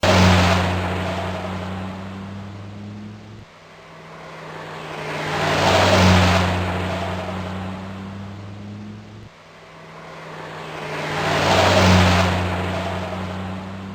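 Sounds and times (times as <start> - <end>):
car engine passing by: 0.0 - 13.9.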